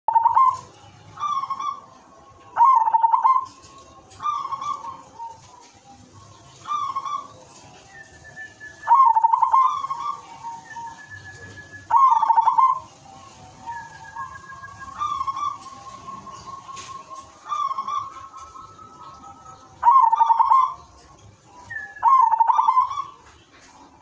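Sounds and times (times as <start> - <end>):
dove cooing: 0.1 - 24.0.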